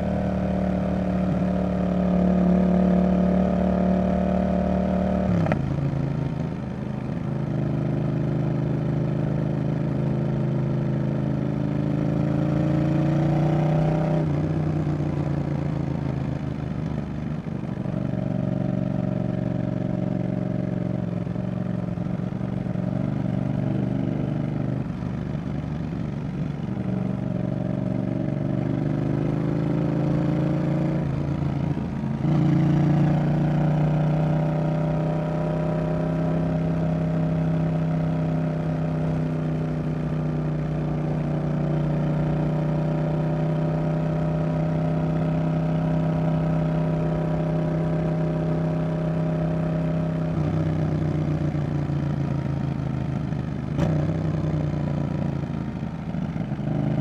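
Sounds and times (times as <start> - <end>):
motorcycle engine running: 5.5 - 57.0.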